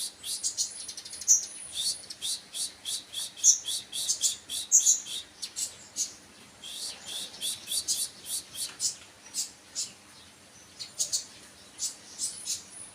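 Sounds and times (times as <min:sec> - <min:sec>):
bird singing high chirps: 0:00.0 - 0:10.0, 0:10.6 - 0:12.9.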